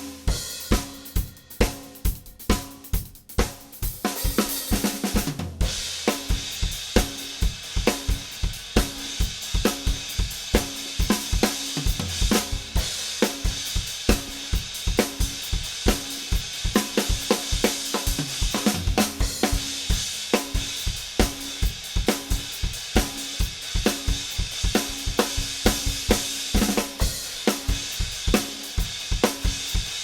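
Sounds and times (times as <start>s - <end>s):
drum kit groove: 0.0s - 30.0s.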